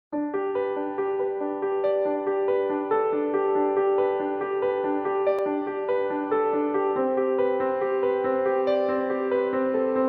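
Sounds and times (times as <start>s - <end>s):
light piano music: 0.1s - 10.0s.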